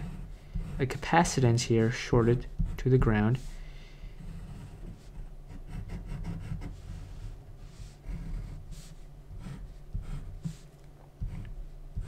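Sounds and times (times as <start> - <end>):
pen scratching on paper: 0.0 - 12.0.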